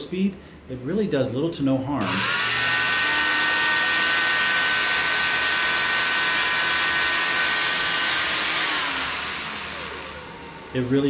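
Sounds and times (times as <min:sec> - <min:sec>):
oscillating saw whining: 0:02.0 - 0:11.0.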